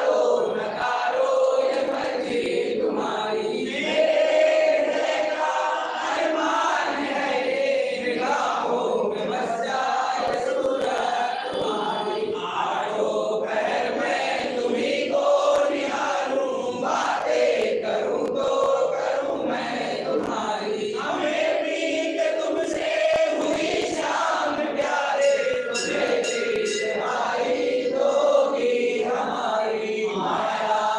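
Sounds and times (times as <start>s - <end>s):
group chanting a hymn in unison: 0.0s - 30.9s.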